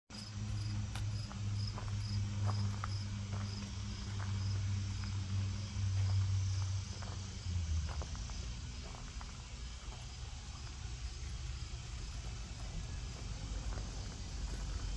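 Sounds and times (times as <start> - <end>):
cricket chirping: 0.2 - 14.9
low steady hum: 0.2 - 14.9.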